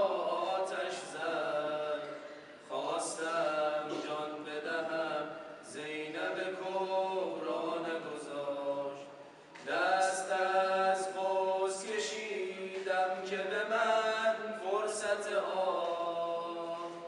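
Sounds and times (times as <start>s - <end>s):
men chanting a cappella: 0.0s - 17.0s.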